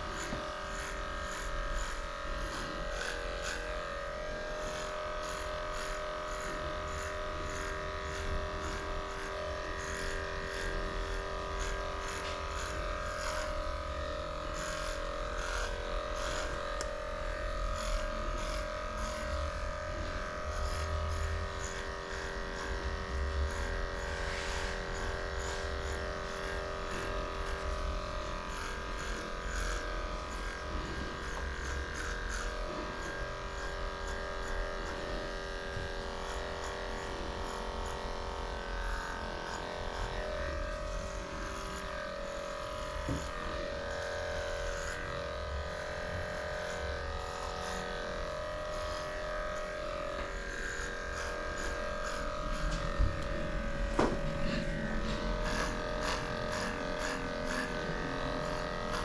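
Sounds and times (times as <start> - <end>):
electric clippers running: 0.0 - 59.0.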